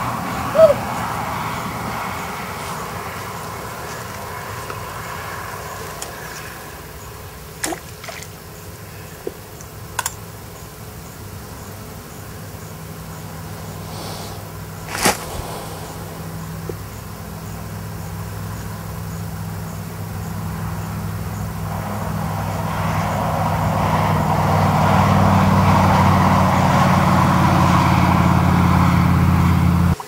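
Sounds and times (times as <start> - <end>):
distant drone: 0.0 - 30.0
steady low hum: 0.0 - 30.0.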